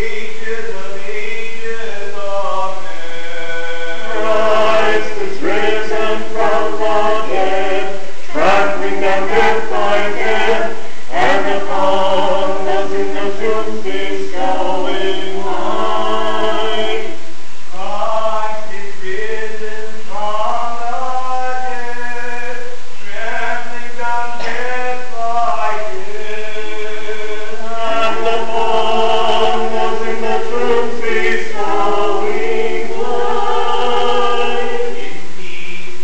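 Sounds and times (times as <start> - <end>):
choir singing unaccompanied chant: 0.0 - 36.0.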